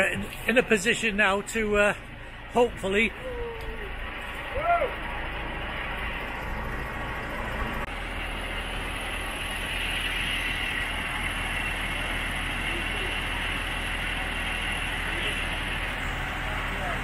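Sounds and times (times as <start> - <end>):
crane engine running: 0.0 - 17.0.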